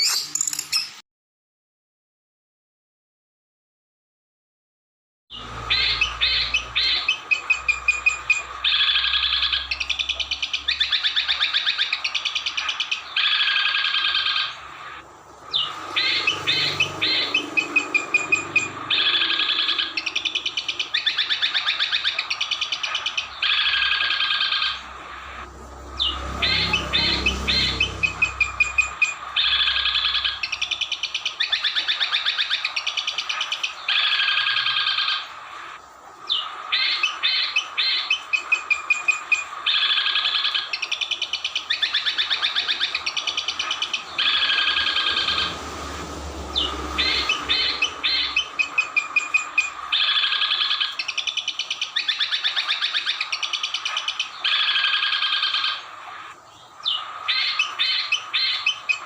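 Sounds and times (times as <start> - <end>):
recorded songbird chattering trills: 5.3 - 59.0.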